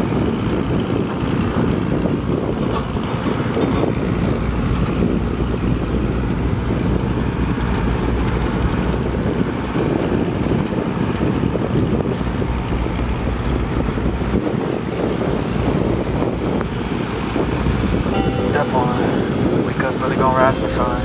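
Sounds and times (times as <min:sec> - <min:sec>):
construction machinery diesel engines: 0:00.0 - 0:21.0
wind buffeting microphone: 0:00.0 - 0:21.0.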